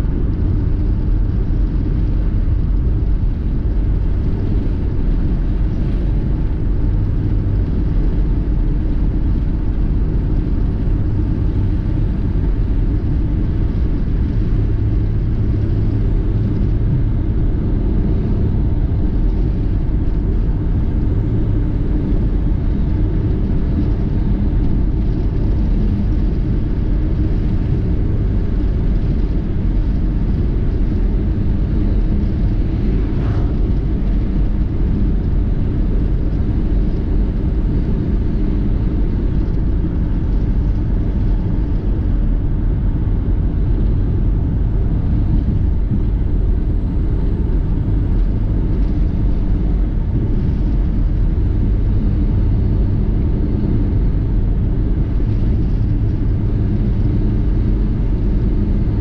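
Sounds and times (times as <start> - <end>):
car driving road and engine noise: 0.0 - 59.0.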